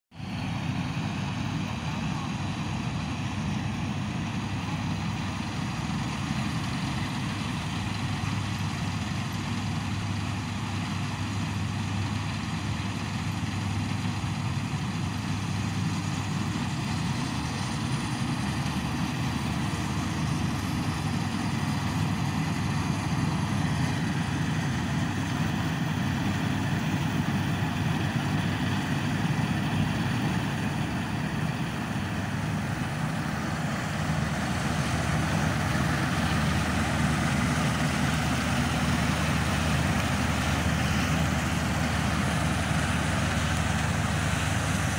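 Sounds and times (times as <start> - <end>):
combine harvester droning: 0.1 - 44.9.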